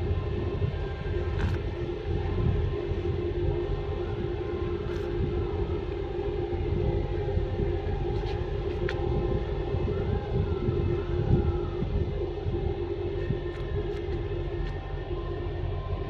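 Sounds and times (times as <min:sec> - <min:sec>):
constant droning hum: 0:00.0 - 0:16.0.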